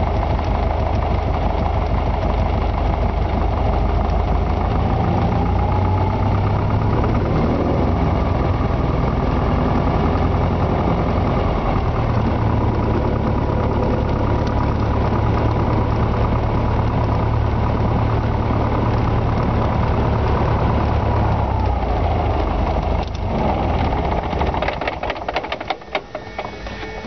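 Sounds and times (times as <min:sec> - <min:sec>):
small plane engine idling: 0:00.0 - 0:27.0.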